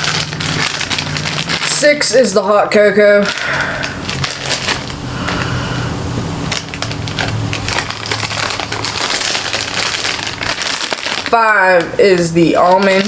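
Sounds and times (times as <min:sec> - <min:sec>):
plastic candy bags crinkling: 0:00.0 - 0:05.5, 0:06.4 - 0:13.0.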